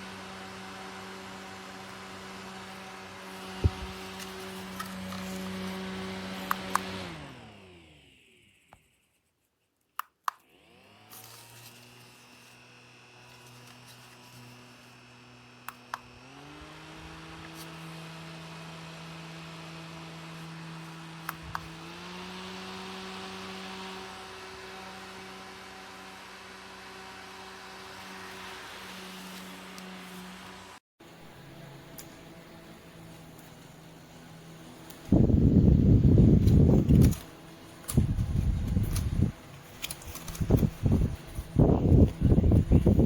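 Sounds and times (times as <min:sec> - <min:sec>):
small fan motor hum: 0:00.0 - 0:43.0.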